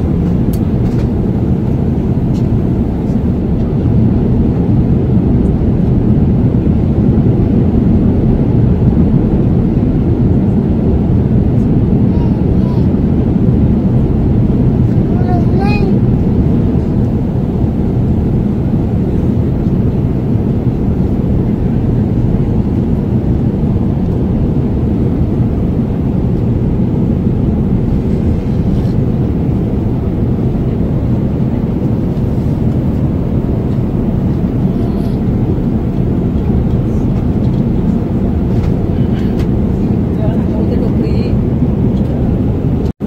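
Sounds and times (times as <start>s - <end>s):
jet engine cabin rumble: 0.0s - 43.0s.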